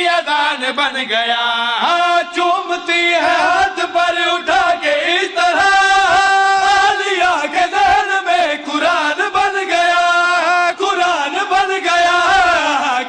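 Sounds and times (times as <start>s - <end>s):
lead reciter singing into microphone: 0.0s - 13.0s
men singing a devotional chant: 0.0s - 13.0s.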